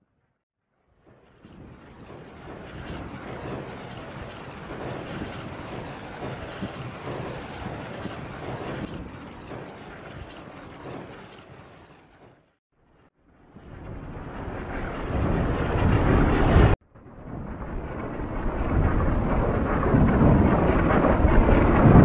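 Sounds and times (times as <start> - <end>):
artillery fire rumble: 1.0 - 12.5, 13.6 - 22.0.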